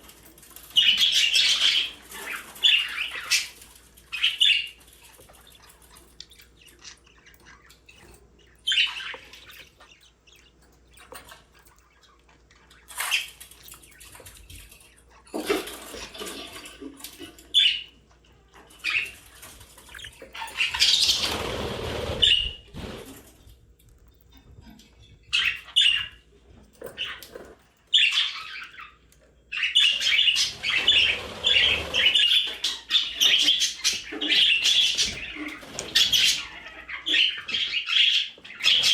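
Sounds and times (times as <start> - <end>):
budgerigars chirping and chattering: 0.0 - 23.3, 23.9 - 38.9.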